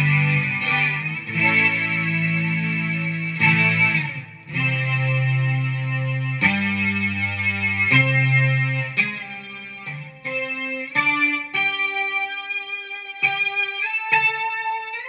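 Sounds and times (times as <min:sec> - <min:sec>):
guitar synth tone: 0:00.0 - 0:15.0.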